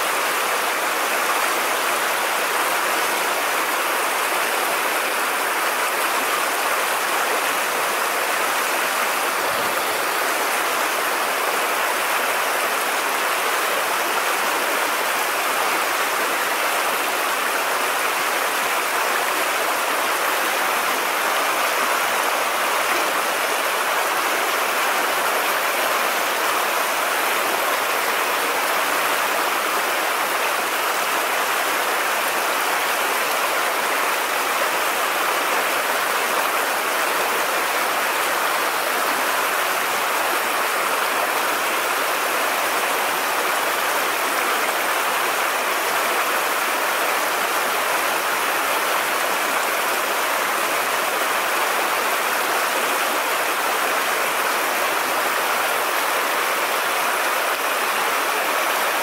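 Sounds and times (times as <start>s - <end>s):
river water rushing over shallows: 0.0s - 59.0s.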